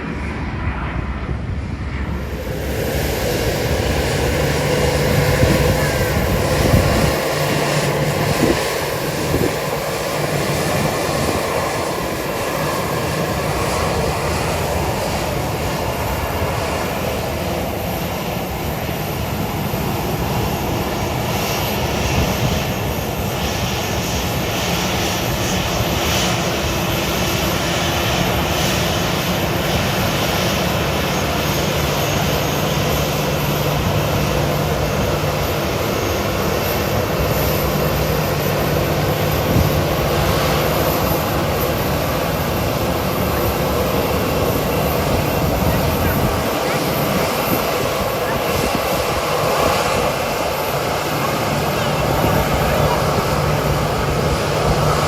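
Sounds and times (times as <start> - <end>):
airliner engines running: 0.0 - 55.0.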